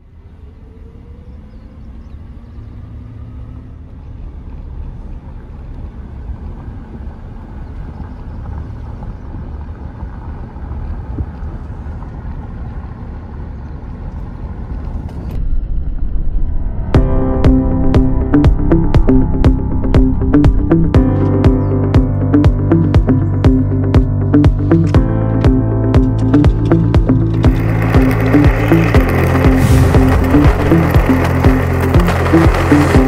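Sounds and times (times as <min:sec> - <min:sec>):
vehicle driving rumble: 0:00.0 - 0:33.0.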